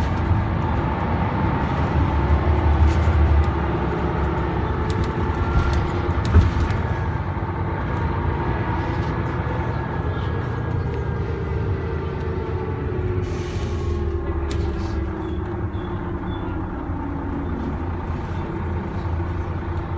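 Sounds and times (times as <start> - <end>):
bus diesel engine rumble: 0.0 - 19.9.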